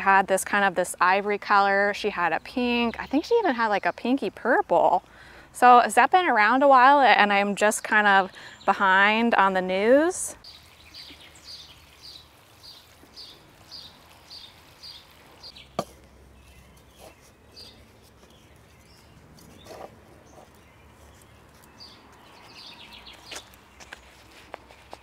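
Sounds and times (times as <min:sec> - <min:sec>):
faint outdoor background: 0:00.0 - 0:25.0.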